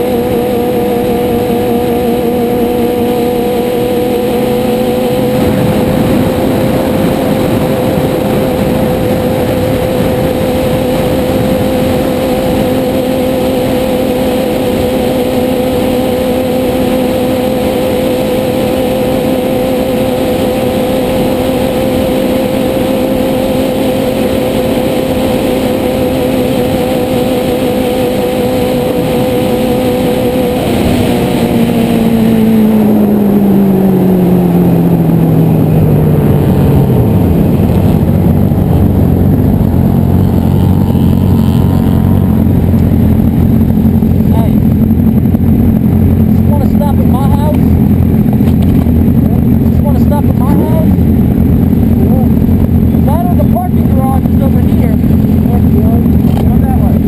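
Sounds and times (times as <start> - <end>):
motorcycle engine at high revs: 0.0 - 57.0
wind and road noise: 0.0 - 57.0.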